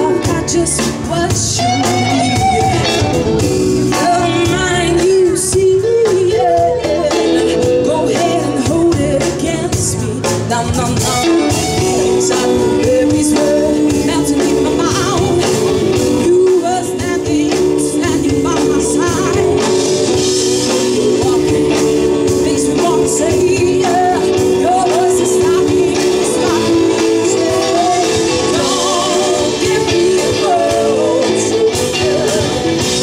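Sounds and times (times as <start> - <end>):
bass guitar: 0.0 - 33.0
drum kit: 0.0 - 33.0
electric guitars: 0.0 - 33.0
woman singing: 0.0 - 33.0.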